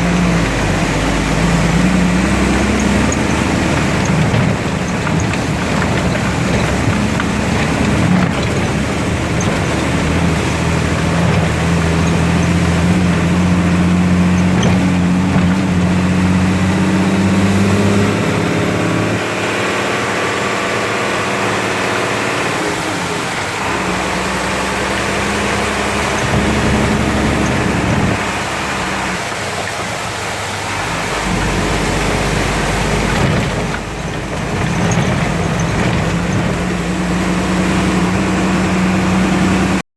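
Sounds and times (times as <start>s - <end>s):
vehicle engine running: 0.0s - 39.8s.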